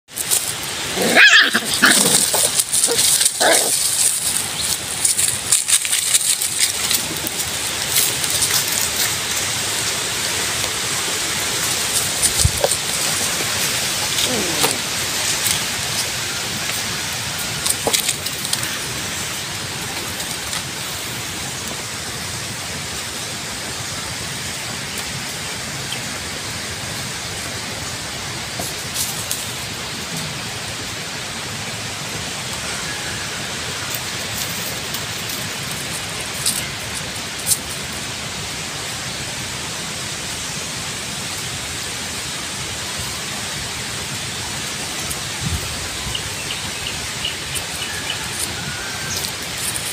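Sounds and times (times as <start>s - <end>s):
steady background hiss: 0.1s - 49.9s.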